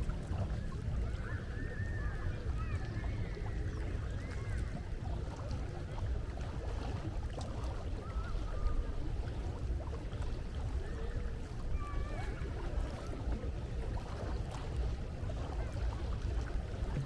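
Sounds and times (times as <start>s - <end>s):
waves and wind rumble: 0.0s - 17.0s.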